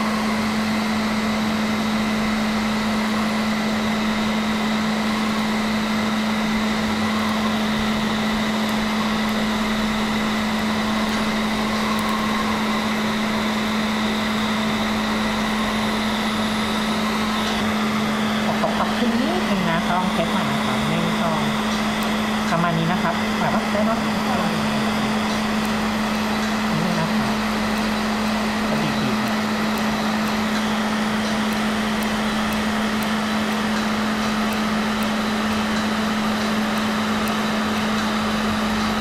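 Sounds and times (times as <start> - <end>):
cooling blower air rush: 0.0 - 39.0.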